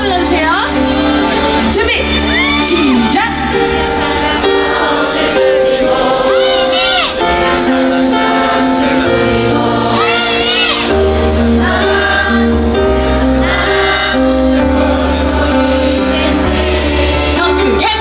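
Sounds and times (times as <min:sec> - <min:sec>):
audience singing along: 0:00.0 - 0:18.0
live pop song over loudspeakers: 0:00.0 - 0:18.0.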